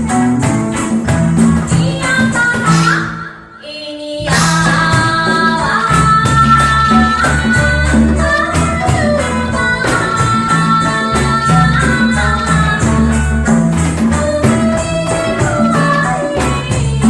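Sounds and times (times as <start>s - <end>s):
live reggae band music: 0.0s - 3.5s, 4.2s - 17.0s.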